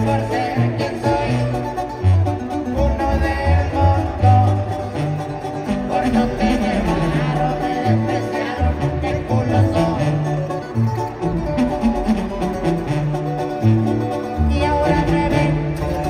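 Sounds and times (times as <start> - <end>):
arena crowd: 0.0 - 16.0
guitars: 0.0 - 16.0
live band playing: 0.0 - 16.0
sousaphone bass line: 0.0 - 16.0.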